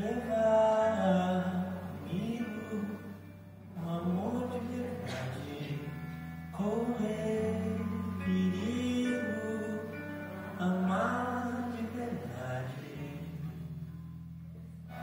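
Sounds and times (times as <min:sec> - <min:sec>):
live band slow song: 0:00.0 - 0:15.0.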